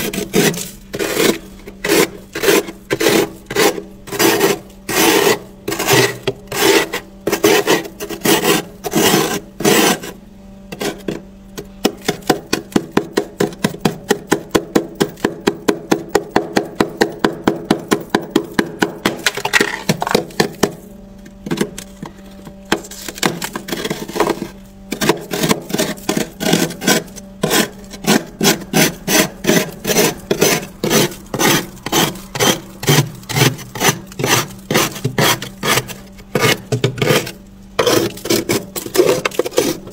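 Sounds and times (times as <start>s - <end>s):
metal spoon scraping frost: 0.0s - 14.4s, 19.0s - 39.9s.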